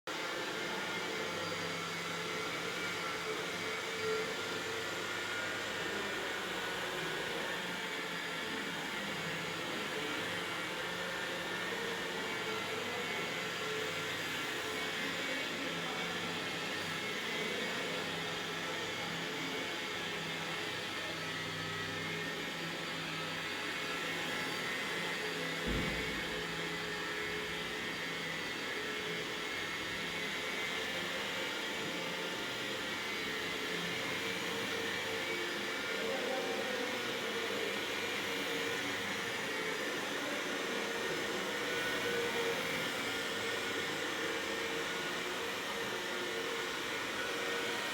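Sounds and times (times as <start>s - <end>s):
power sander motor whir: 0.4s - 47.9s.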